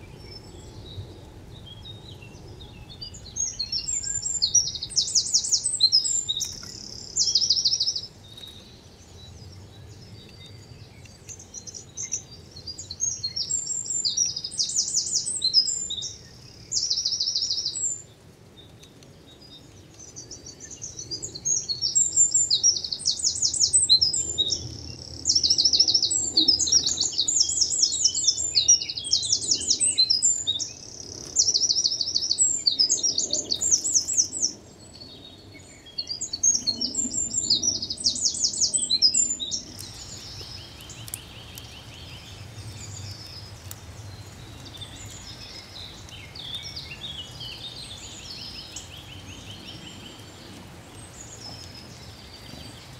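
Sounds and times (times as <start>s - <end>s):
songbirds twittering: 0.0s - 52.9s.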